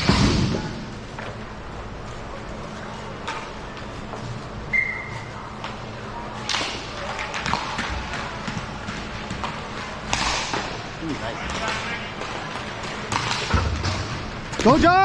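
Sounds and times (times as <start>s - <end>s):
hockey sticks clacking: 2.1s - 15.0s.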